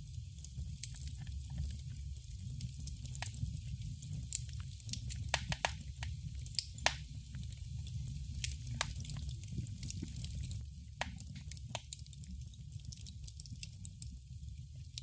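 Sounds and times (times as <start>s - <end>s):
fire crackling: 0.0s - 15.0s
flames rumbling: 0.0s - 15.0s.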